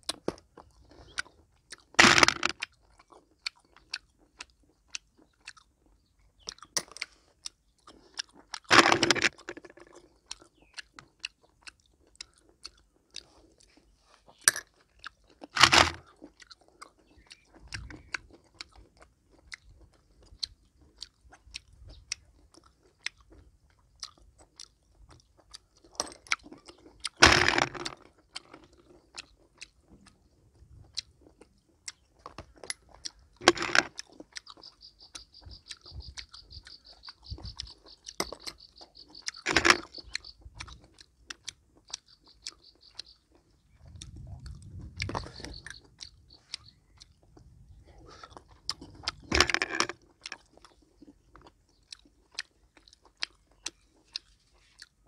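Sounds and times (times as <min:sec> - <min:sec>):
snail shells clicking: 0:00.0 - 0:05.7, 0:06.3 - 0:55.0
chewing and mouth noises: 0:00.0 - 0:55.0.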